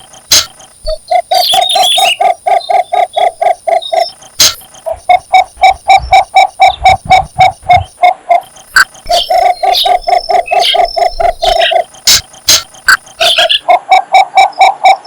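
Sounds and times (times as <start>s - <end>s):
sharp clicks: 0.0s - 13.5s
bittern croaking: 0.0s - 15.0s.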